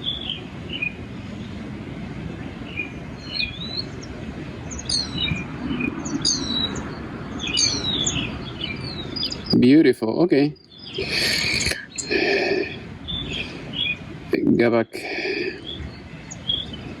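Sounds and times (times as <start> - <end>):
birds chirping: 0.0 - 17.0
steady low rumble: 0.0 - 17.0.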